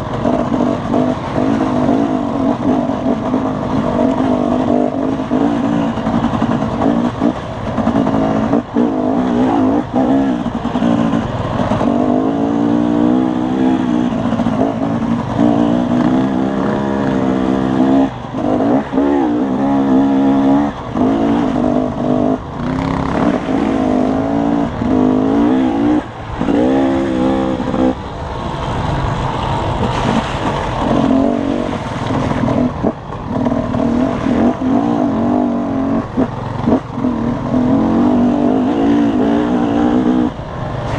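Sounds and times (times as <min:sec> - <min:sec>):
dirt bike engine revving: 0:00.0 - 0:28.2, 0:28.8 - 0:40.9.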